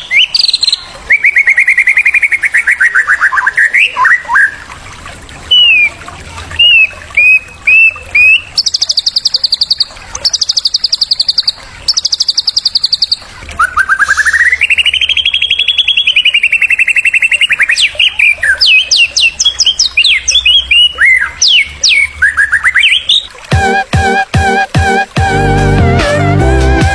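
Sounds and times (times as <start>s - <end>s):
songbird song: 0.0s - 4.8s, 5.5s - 25.1s.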